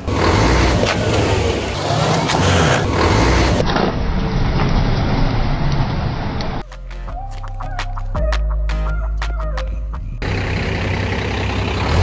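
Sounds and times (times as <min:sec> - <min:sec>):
tyre and road noise: 0:00.0 - 0:07.9, 0:10.2 - 0:12.0
truck engine rumbling: 0:00.0 - 0:12.0.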